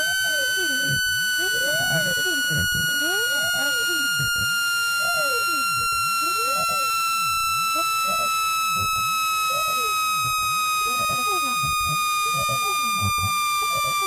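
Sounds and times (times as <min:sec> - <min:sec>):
electronic sweeps: 0:00.0 - 0:14.0
electronic tone falling in pitch: 0:00.0 - 0:14.0.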